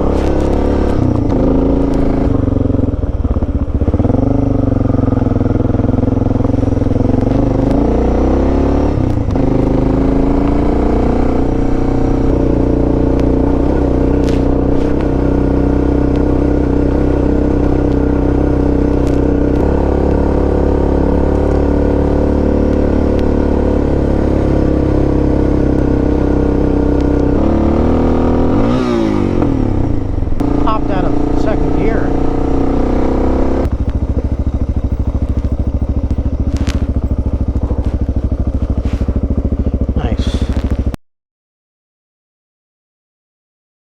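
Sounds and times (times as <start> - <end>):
motorcycle engine shifting gears: 0.0 - 41.0.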